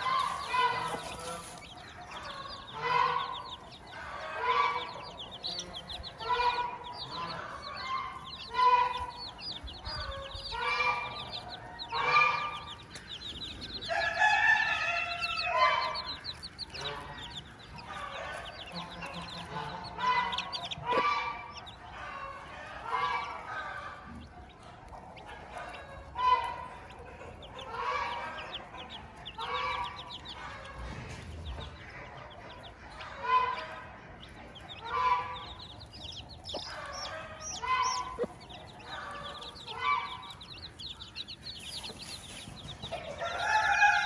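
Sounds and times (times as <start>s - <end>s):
chicks peeping: 0.0s - 44.0s
hen clucking: 0.0s - 44.0s.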